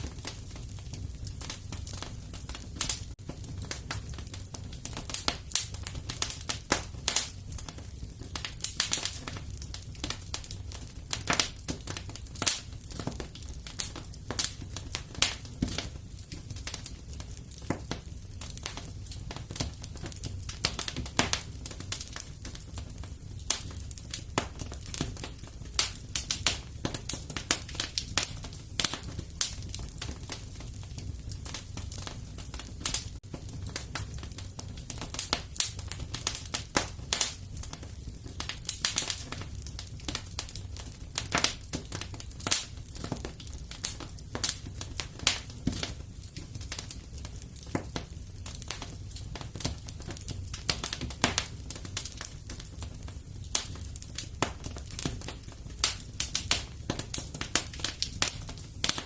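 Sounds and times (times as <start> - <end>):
fire crackling: 0.0 - 59.0.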